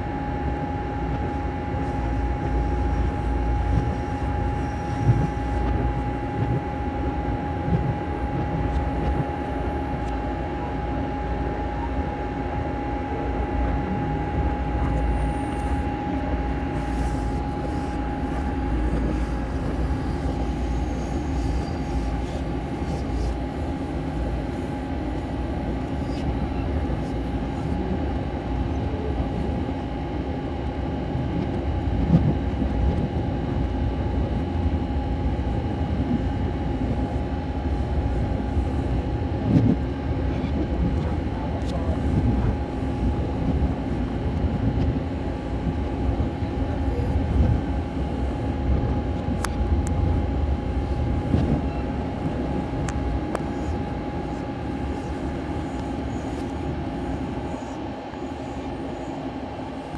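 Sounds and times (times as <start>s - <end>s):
train whine: 0.0s - 59.9s.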